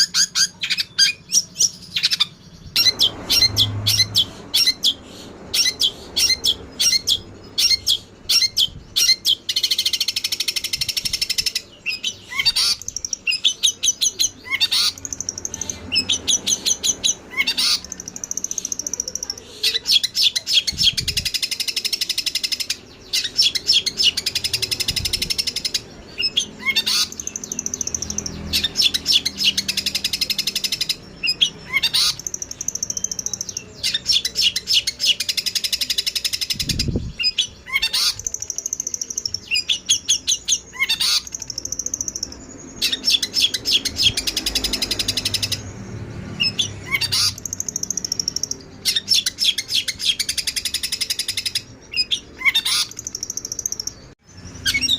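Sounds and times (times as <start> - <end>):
songbirds chirping rapid notes: 0.0 - 54.9.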